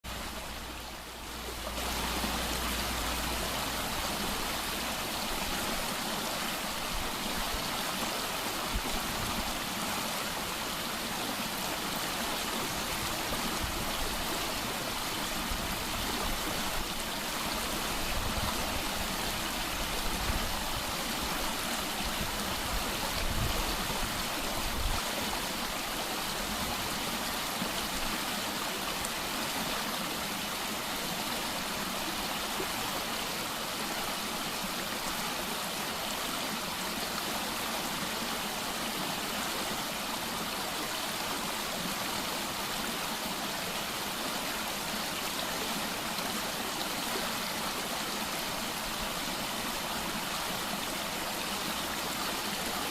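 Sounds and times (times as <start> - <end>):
stream gushing over rocks: 0.0 - 52.9.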